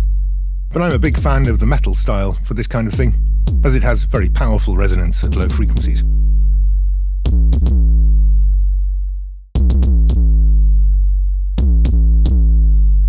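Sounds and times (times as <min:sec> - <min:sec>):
synthesized kick drum booms: 0:00.0 - 0:08.8, 0:09.6 - 0:13.0.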